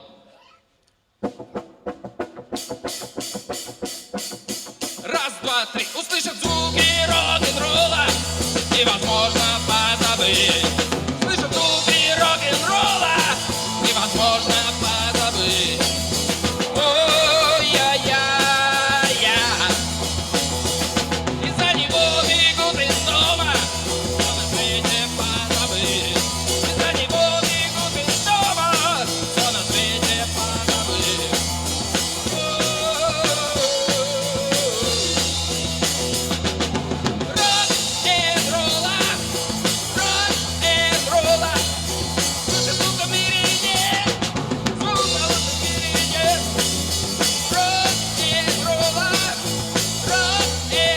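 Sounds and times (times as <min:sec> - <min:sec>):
drum kit beat: 0:01.2 - 0:50.9
rock band playing: 0:01.3 - 0:50.9.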